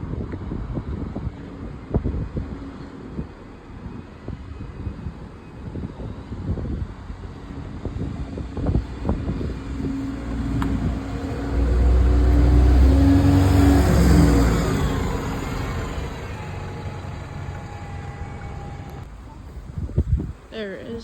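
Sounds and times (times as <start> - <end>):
bus engine passing by: 0.0 - 20.5.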